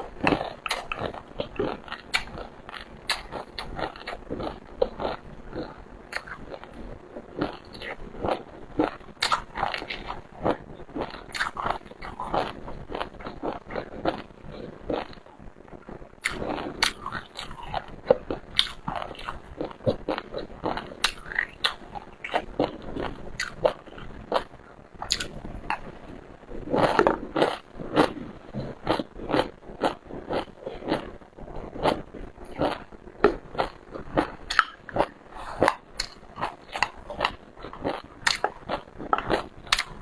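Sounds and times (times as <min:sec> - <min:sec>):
crunchy chewing: 0:00.0 - 0:40.0.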